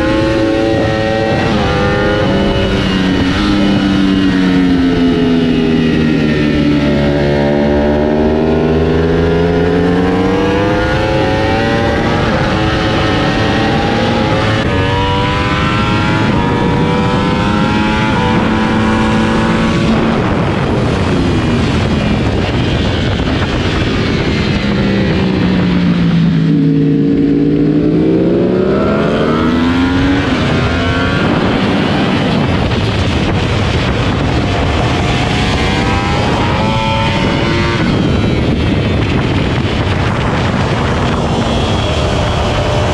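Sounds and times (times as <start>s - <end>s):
motorcycle engine revving: 0.0s - 42.9s
wind rush: 0.0s - 42.9s.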